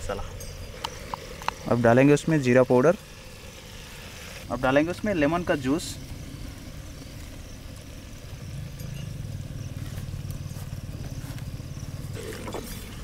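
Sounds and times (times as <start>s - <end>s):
small engine idling: 0.1s - 13.0s.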